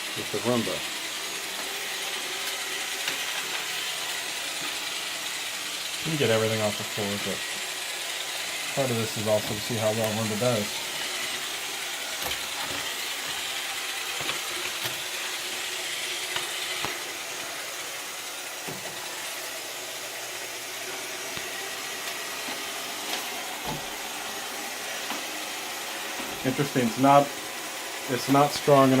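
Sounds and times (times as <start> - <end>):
robot vacuum whirring: 0.0 - 29.0.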